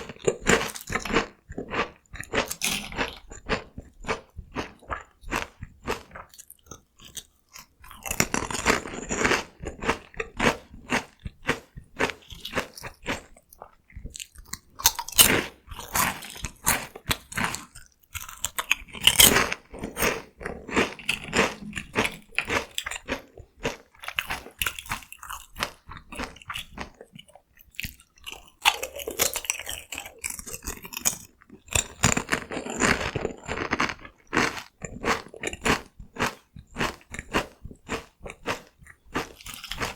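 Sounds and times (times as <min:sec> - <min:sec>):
crunching and chewing snacks: 0:00.0 - 0:39.9.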